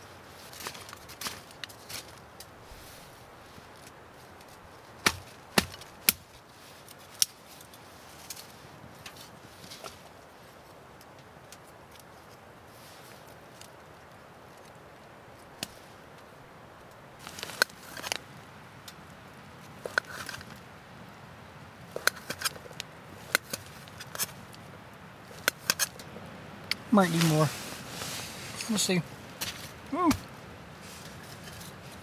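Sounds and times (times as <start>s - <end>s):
faint hiss: 0.0s - 32.0s.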